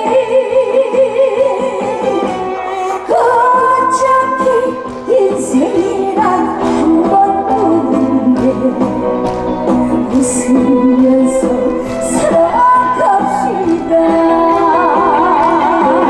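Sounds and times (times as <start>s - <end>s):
backing music: 0.0s - 16.0s
woman singing with vibrato: 0.0s - 16.0s.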